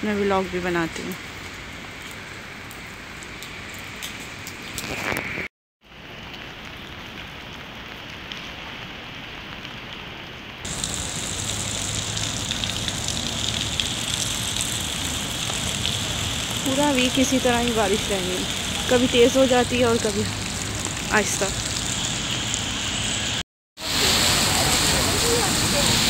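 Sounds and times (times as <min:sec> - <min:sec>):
rain falling on pavement: 0:00.0 - 0:26.0.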